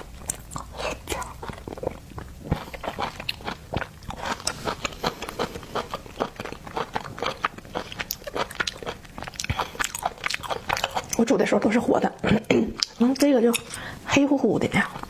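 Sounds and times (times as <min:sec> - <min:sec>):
chewing and crunching seafood: 0:00.0 - 0:14.1, 0:14.7 - 0:15.0.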